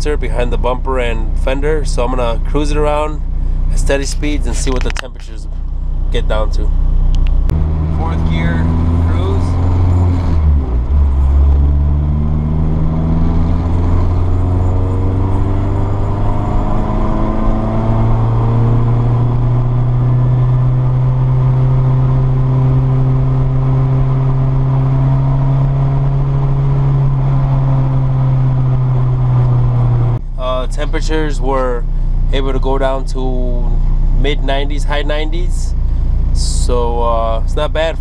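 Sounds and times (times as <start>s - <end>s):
car engine revving up: 0.0s - 38.0s.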